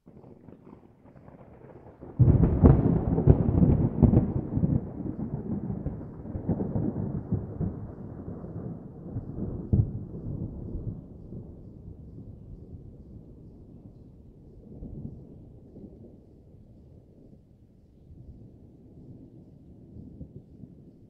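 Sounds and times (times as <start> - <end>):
thunder cracking and rumbling: 0.1 - 17.6.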